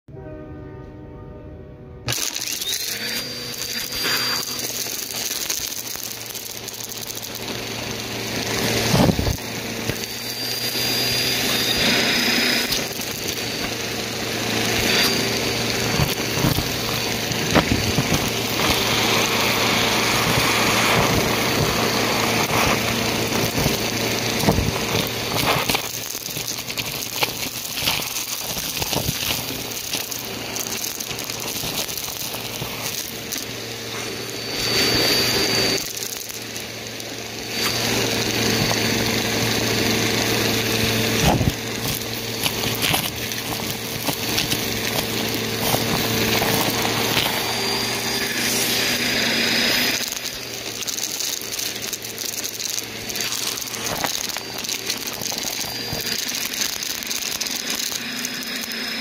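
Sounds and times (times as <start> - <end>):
vacuum cleaner motor whine: 1.9 - 59.0
debris crackling through vacuum: 2.1 - 59.0.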